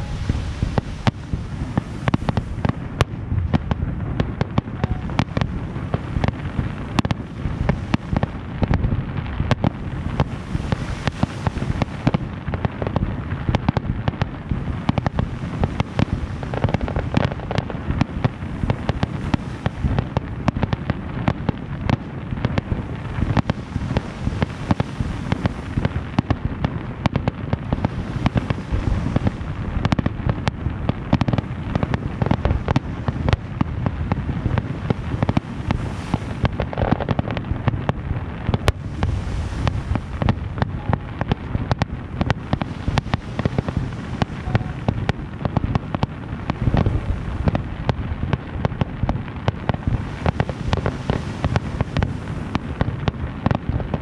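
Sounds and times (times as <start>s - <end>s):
low rumble: 0.0s - 19.0s, 21.0s - 53.9s
fireworks bangs: 0.0s - 54.0s.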